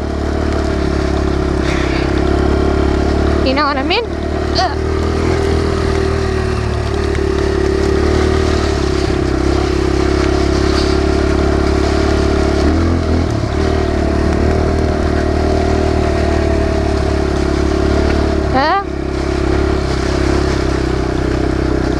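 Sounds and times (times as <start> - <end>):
dirt bike engine running: 0.0 - 21.9.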